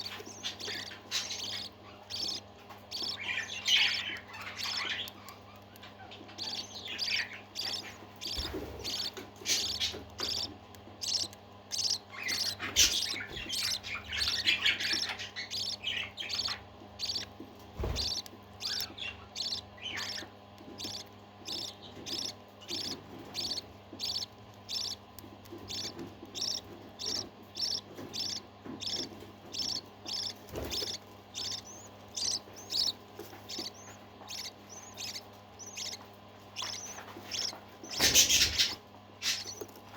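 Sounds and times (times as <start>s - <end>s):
parakeets chirping: 0.0s - 39.9s.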